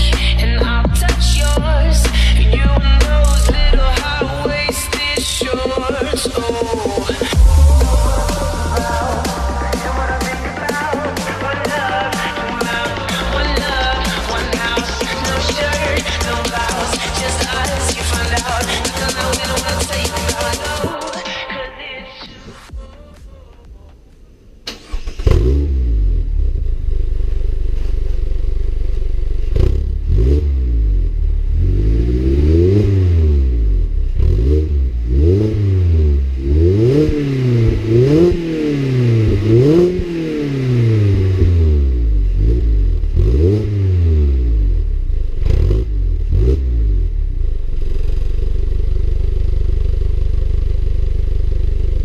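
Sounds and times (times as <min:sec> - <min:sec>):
car engine revving: 0:00.0 - 0:21.0, 0:22.5 - 0:52.0
exhaust cracks: 0:00.0 - 0:21.2, 0:22.4 - 0:52.0.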